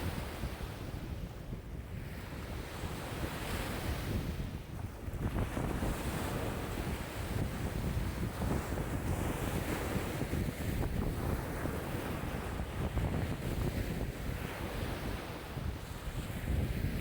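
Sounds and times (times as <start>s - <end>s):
waves lapping and splashing: 0.0s - 17.0s
wind buffeting microphone: 0.0s - 17.0s.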